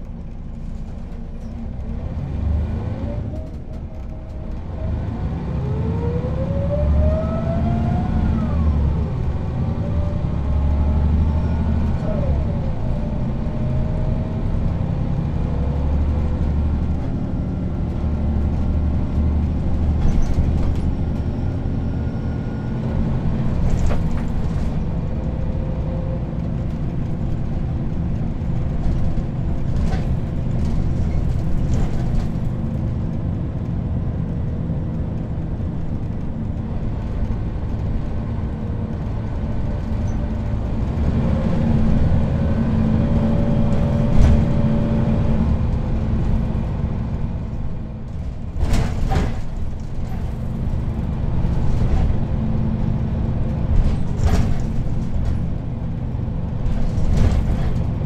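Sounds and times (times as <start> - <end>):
bus body rattles: 0.0 - 5.1, 8.7 - 58.0
bus engine drone: 0.0 - 58.0.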